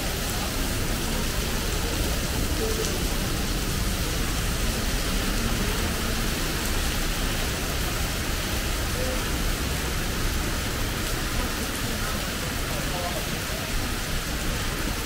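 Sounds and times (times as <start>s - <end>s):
heavy rain on pavement: 0.0s - 15.0s.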